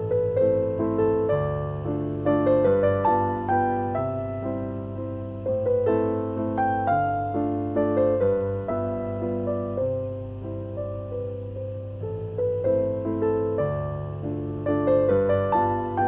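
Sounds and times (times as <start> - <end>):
calm piano music: 0.0 - 16.0.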